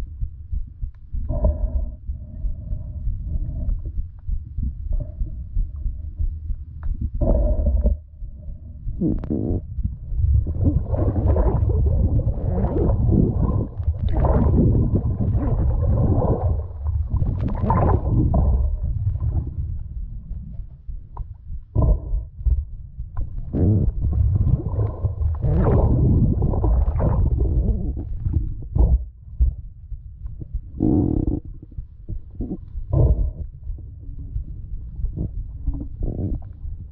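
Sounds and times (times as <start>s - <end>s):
underwater rumbling and gurgling: 0.0s - 36.9s.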